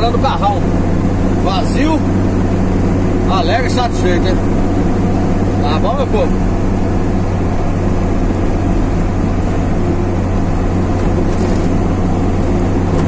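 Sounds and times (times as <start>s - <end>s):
truck engine running: 0.0s - 13.0s
tyre and road noise: 0.0s - 13.0s.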